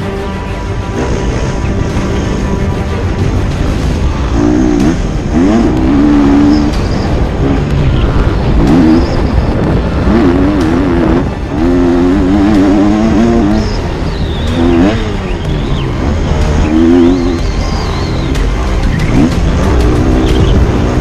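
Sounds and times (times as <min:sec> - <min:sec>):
motocross bike engine revving: 0:00.8 - 0:21.0.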